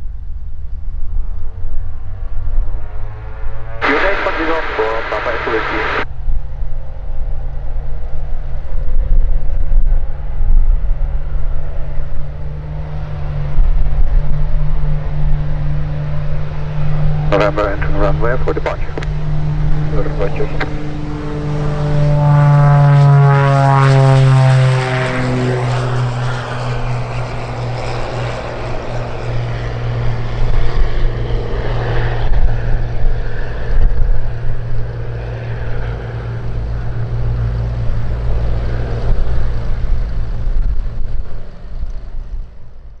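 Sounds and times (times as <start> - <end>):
propeller plane engines droning: 0.0 - 43.0.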